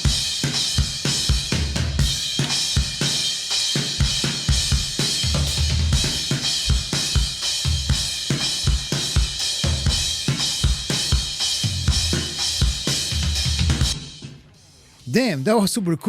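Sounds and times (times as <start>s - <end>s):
drum kit playing a groove: 0.0s - 15.4s.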